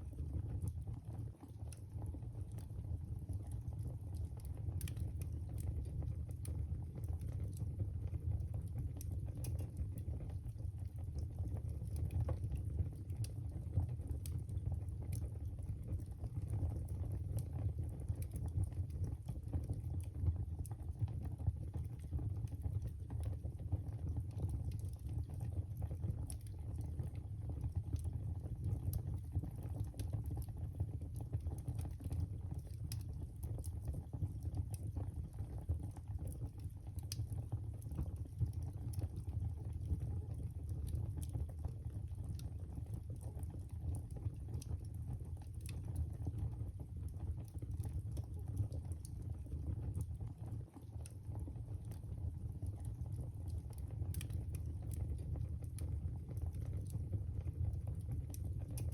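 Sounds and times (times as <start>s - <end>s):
wood fire crackling and popping: 0.0s - 58.9s.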